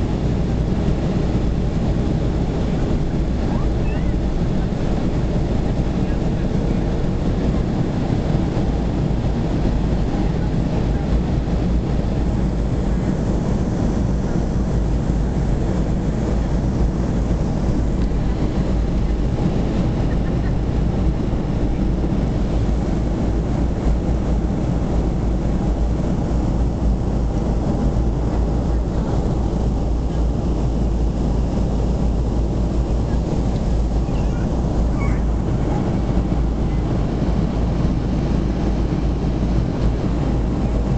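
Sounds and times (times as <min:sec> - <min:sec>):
airflow rushing past fuselage: 0:00.0 - 0:40.9
jet engines droning: 0:00.0 - 0:40.9.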